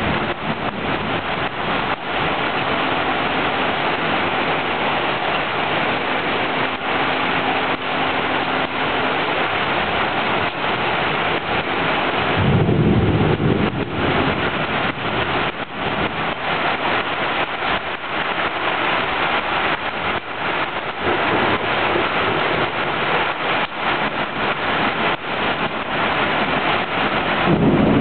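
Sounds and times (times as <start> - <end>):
heavy rain pouring: 0.0 - 28.0
thunder rumble: 0.0 - 28.0.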